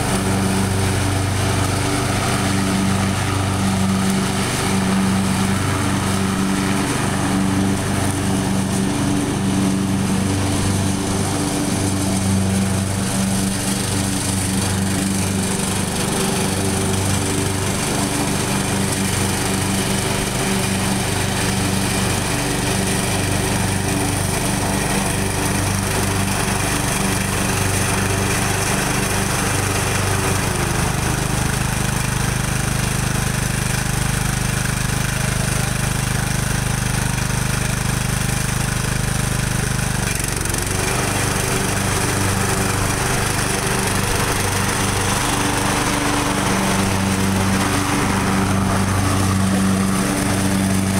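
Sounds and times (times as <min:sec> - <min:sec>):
small tractor engine running: 0:00.0 - 0:50.9.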